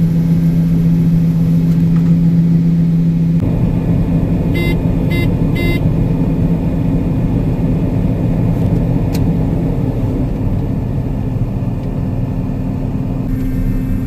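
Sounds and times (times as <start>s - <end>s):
farm vehicle engine droning: 0.0s - 14.0s.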